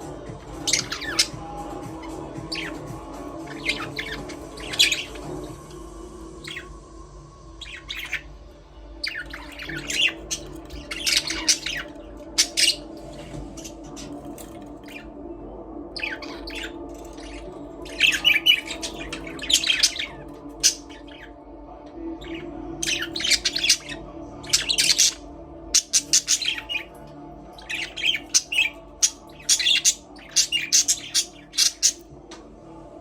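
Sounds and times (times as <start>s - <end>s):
budgerigars chirping and warbling: 0.0s - 6.8s, 7.5s - 15.2s, 15.8s - 21.3s, 22.2s - 32.4s.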